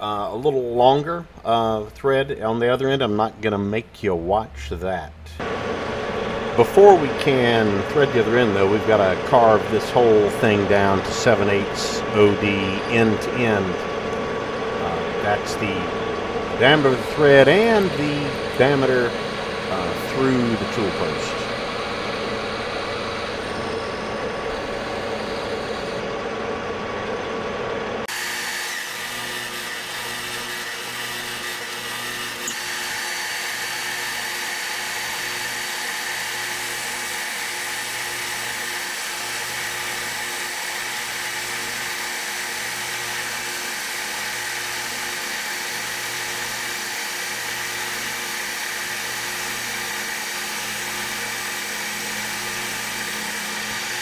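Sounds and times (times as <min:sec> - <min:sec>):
high machine whine: 0:04.1 - 0:54.0
metal lathe cutting: 0:05.4 - 0:54.0.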